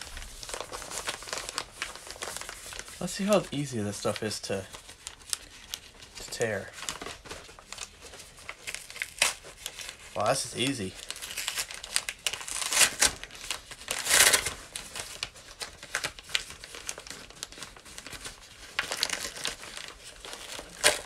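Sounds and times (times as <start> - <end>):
package wrapping crinkling and ripping: 0.0 - 21.0.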